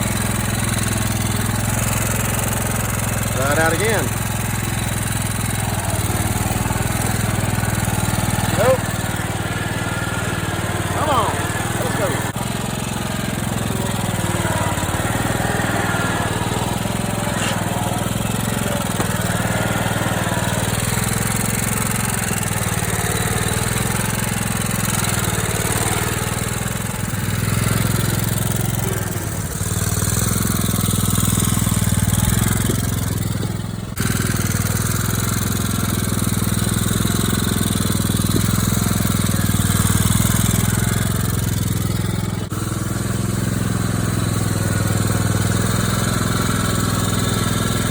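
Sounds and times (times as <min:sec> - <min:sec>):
riding lawn mower engine: 0:00.0 - 0:47.9.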